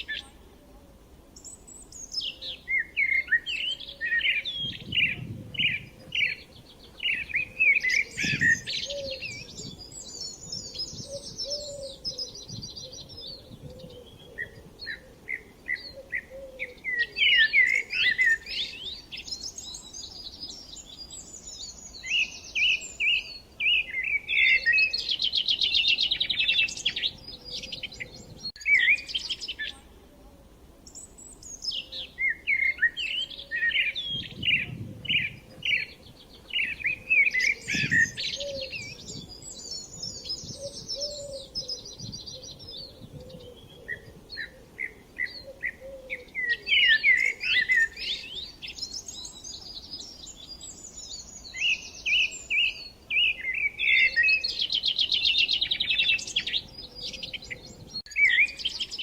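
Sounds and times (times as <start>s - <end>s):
songbirds chirping and whistling: 0.0s - 0.4s, 1.4s - 29.8s, 30.8s - 59.0s.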